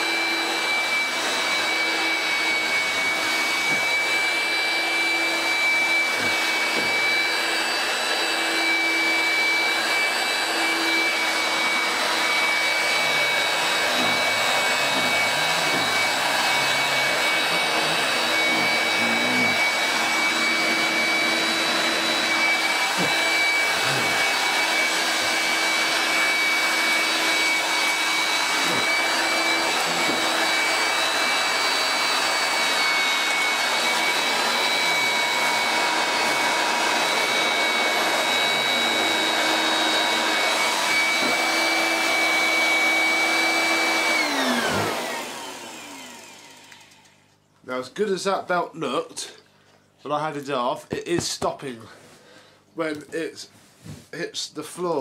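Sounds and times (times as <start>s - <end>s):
handheld vacuum cleaner running: 0.0s - 47.4s.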